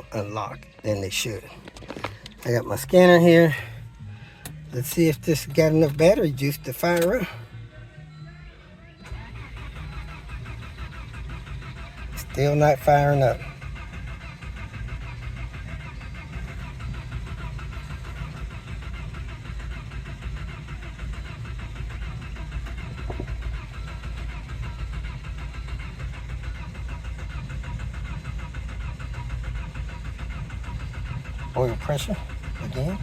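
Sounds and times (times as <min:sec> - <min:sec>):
car engine cranking on starter: 0:00.0 - 0:08.2, 0:08.8 - 0:33.0.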